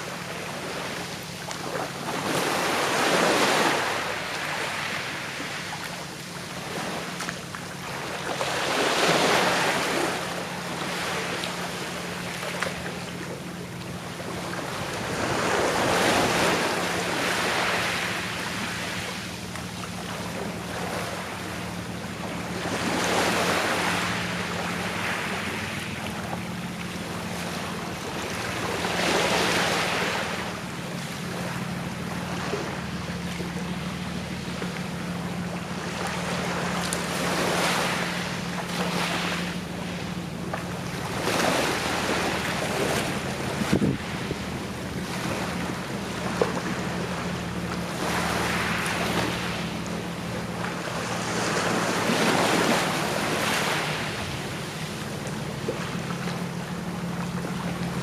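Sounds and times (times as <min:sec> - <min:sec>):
sea waves washing on shore: 0:00.0 - 0:58.0
steady low hum: 0:00.0 - 0:58.0.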